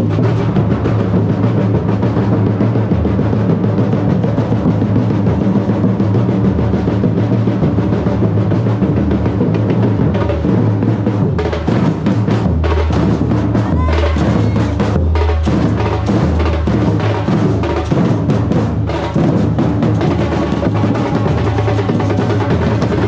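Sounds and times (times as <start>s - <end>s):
bass drums and snare drums: 0.0s - 23.0s.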